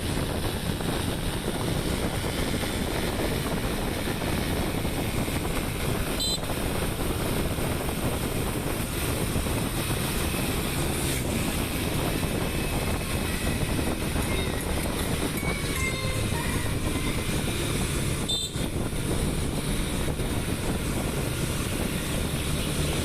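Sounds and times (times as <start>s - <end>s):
motorbike engine: 0.0s - 23.0s
wind and road noise: 0.0s - 23.0s
wind buffeting microphone: 0.0s - 23.0s.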